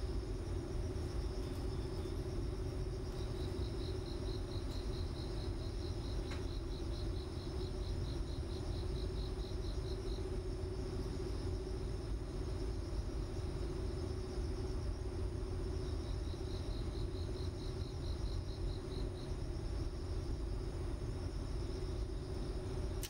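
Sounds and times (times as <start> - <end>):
crickets chirping: 0.0 - 23.0
second cricket chirp: 0.0 - 23.0
steady low hum: 0.0 - 23.0.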